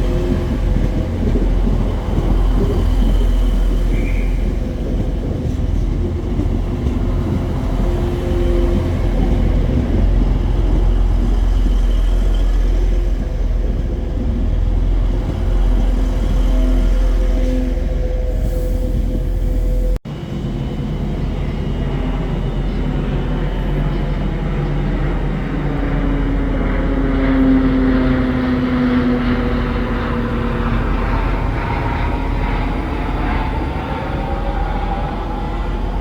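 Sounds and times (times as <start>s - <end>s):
train rumbling: 0.0s - 36.0s.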